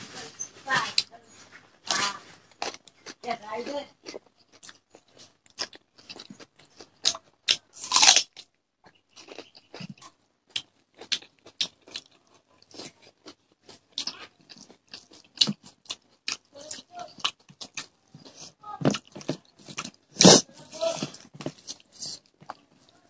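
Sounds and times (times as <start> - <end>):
people chewing and crunching food: 0.0 - 23.0.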